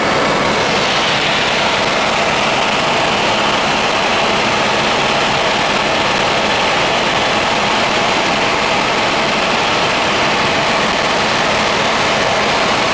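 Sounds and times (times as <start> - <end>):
helicopter engine and rotor: 0.0 - 12.9.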